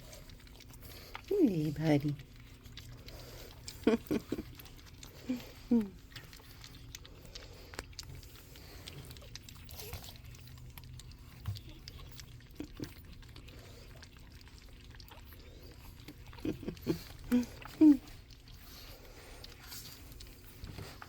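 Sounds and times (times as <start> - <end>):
puppies squeaking and grunting: 0.0 - 21.0
soft clicks of puppies moving: 0.0 - 21.0.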